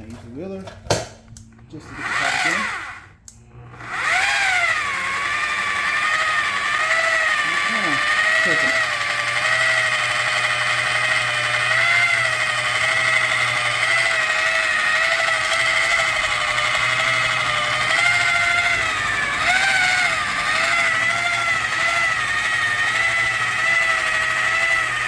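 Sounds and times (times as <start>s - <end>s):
electric polisher whining: 1.8s - 25.0s.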